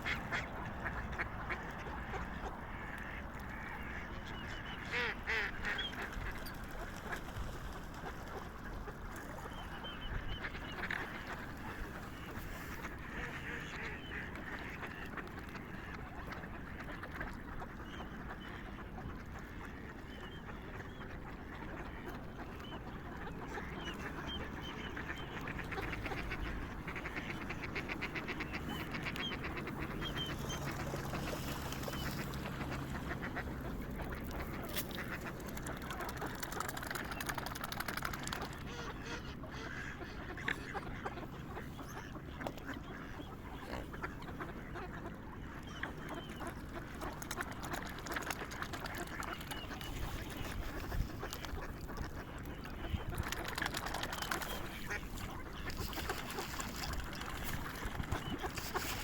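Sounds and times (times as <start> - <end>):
swans and waterfowl calling: 0.0 - 59.0.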